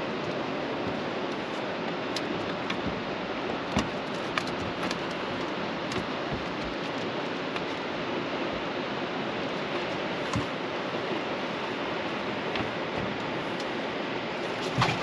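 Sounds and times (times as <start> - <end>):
rushing water and wind: 0.0 - 15.0.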